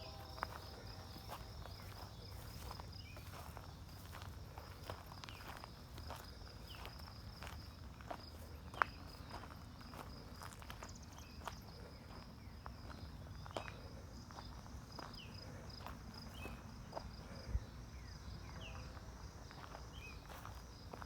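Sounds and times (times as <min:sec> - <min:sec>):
footsteps crunching on rough ground: 0:00.0 - 0:17.2, 0:18.5 - 0:21.0
insects trilling: 0:00.0 - 0:21.0.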